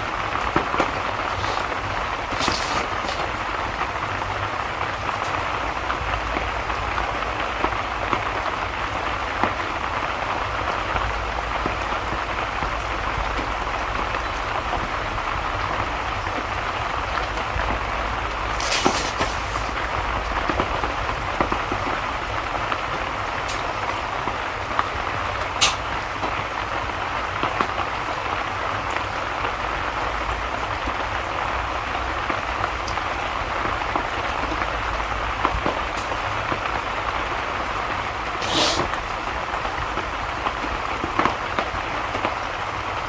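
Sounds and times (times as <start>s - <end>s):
steady rain falling: 0.0s - 43.0s
wood fire crackling and popping: 0.0s - 43.0s.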